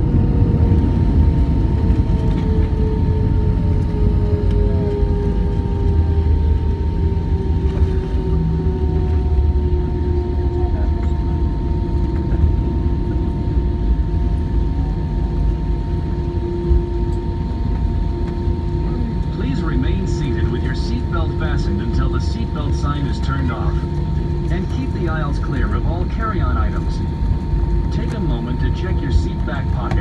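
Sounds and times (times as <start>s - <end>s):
jet engines idling: 0.0s - 30.0s.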